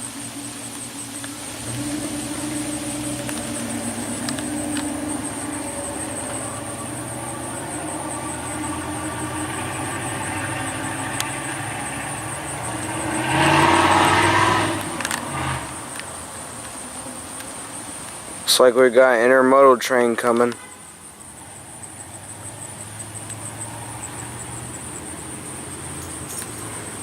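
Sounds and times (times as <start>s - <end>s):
vehicle passing close: 0.0s - 19.8s, 21.2s - 27.0s
insects chirring: 0.0s - 27.0s
vehicle engines running: 0.0s - 27.0s.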